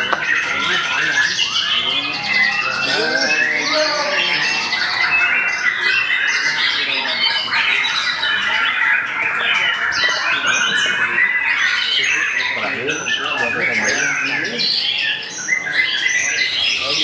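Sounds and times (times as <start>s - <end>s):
birds singing chirps and trills: 0.0s - 17.0s.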